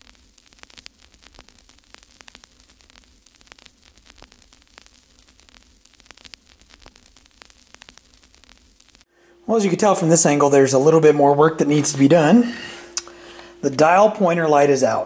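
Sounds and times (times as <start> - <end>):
crackling static clicks: 0.0 - 15.0
low mains hum: 0.0 - 15.0
steady hiss: 0.0 - 15.0.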